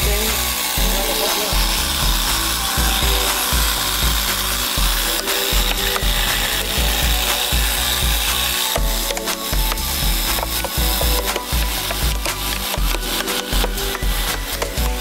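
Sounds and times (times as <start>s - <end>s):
air compressor running: 0.0s - 15.0s.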